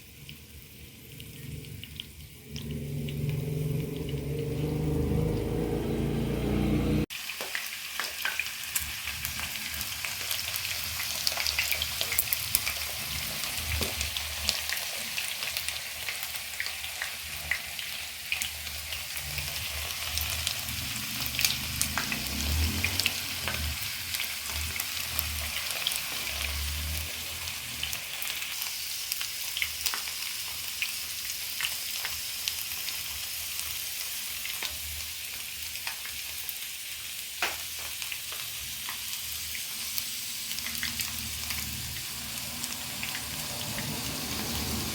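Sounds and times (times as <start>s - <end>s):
food sizzling in a pan: 0.0s - 5.2s, 7.0s - 44.9s.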